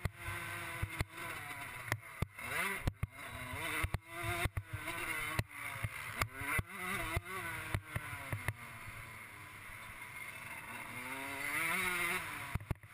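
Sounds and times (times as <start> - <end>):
motocross engine revving: 0.0 - 12.9.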